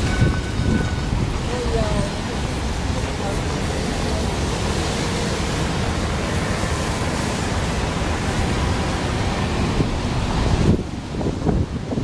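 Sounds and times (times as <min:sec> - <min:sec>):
rain hiss: 0:00.0 - 0:12.0
wet-road traffic: 0:00.0 - 0:12.0
wind buffeting microphone: 0:00.0 - 0:12.0.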